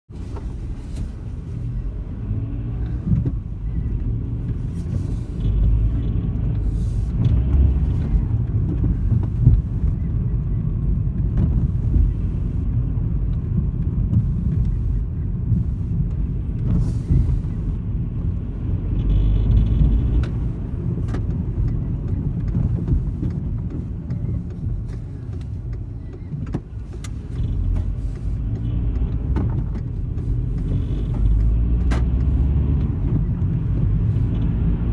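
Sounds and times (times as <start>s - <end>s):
car road and engine rumble: 0.1s - 34.9s.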